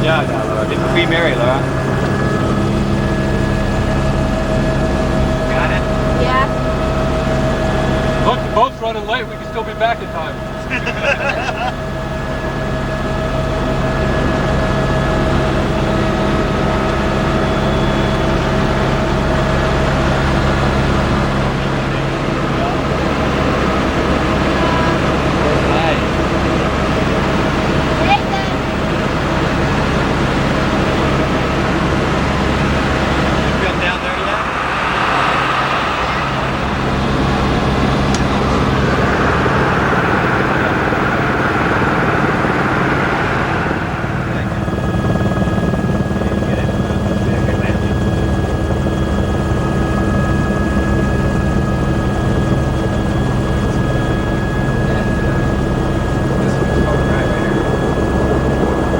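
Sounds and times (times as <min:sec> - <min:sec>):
helicopter engine and rotor drone: 0:00.0 - 0:58.9.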